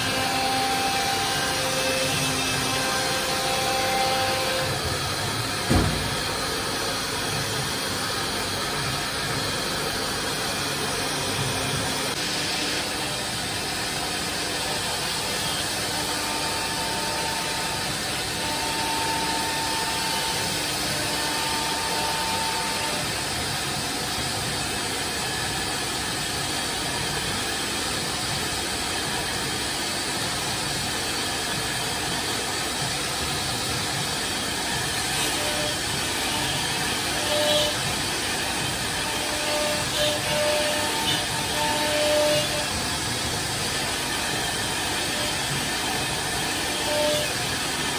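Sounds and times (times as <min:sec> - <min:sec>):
router spindle motor whirring: 0:00.0 - 0:05.6, 0:06.2 - 0:25.6, 0:33.6 - 0:47.9.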